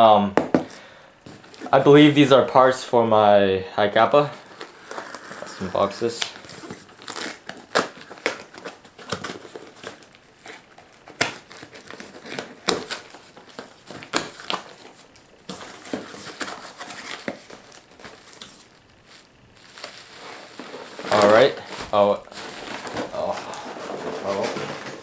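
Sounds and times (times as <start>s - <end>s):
packaging crinkling and crackling: 4.2s - 25.0s.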